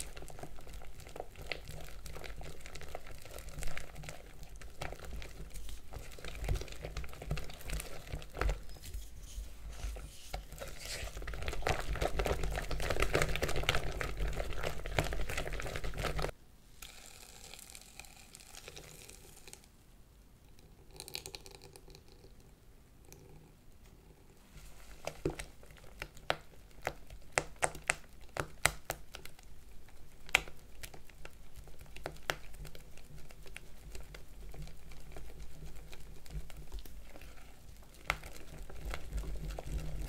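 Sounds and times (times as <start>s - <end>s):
crinkling and crackling: 0.0s - 19.8s, 23.1s - 40.0s.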